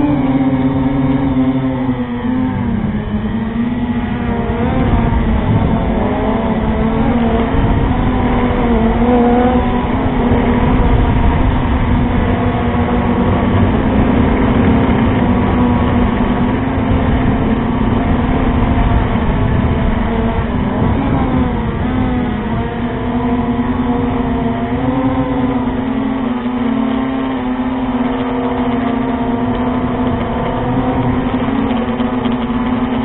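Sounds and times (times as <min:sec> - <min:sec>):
drone motors whining: 0:00.0 - 0:33.0
wind noise rumble: 0:00.0 - 0:33.0.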